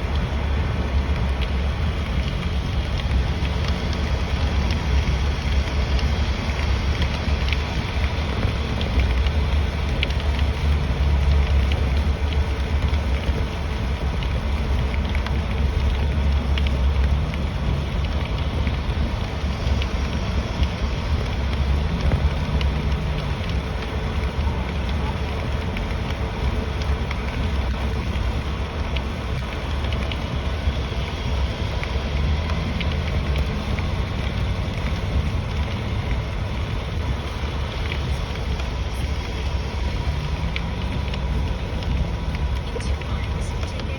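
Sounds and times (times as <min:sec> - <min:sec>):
rain ticking on car: 0:00.0 - 0:43.9
road rumble of car driving: 0:00.0 - 0:43.9.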